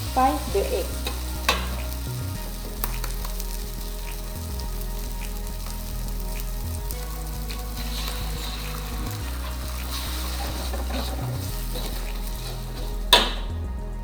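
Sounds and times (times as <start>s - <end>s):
egg sizzling in frying pan: 0.0s - 13.7s.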